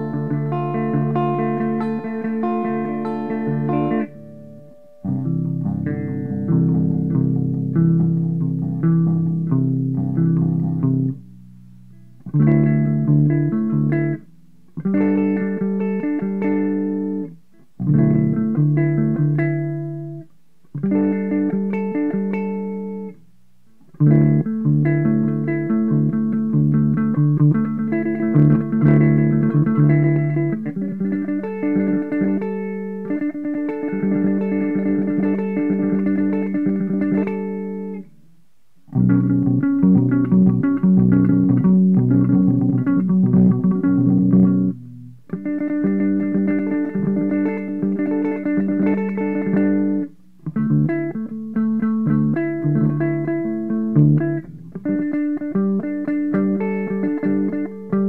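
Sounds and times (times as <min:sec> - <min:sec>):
electric guitar improvising: 0:00.0 - 0:58.0.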